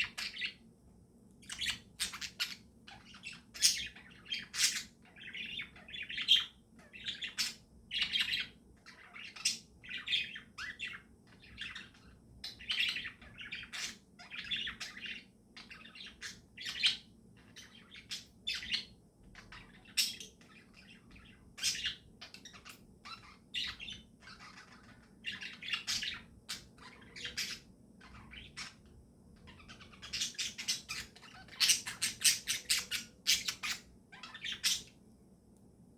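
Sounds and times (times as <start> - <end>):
budgies chirping: 0.0 - 0.6, 1.4 - 35.0.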